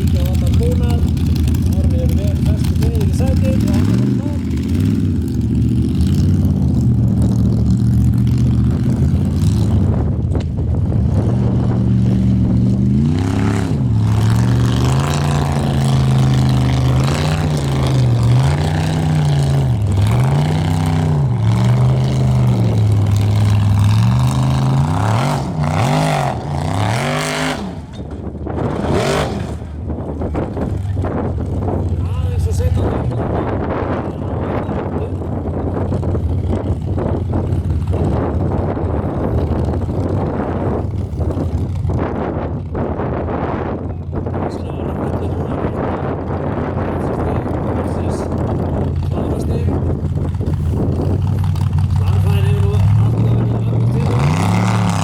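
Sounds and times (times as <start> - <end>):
buggy engine revving: 0.0 - 55.0.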